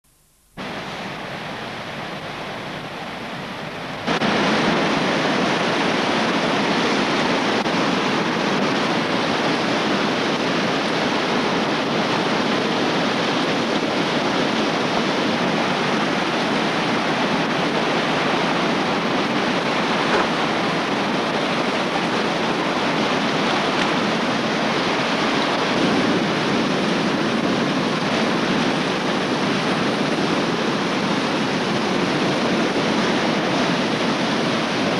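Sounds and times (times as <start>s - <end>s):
river rapid rushing: 0.6s - 34.9s.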